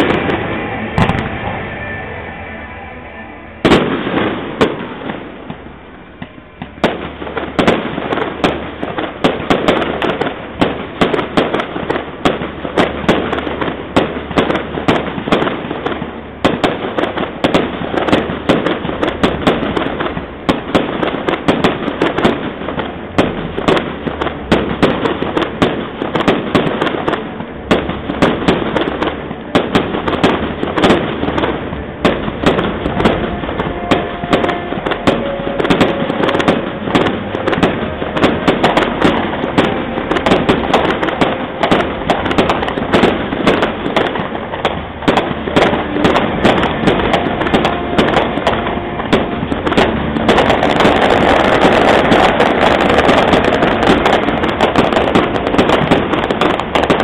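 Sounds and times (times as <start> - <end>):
firework barrage of bangs and crackling: 0.0 - 57.0
loud firework shell burst: 0.0 - 57.0.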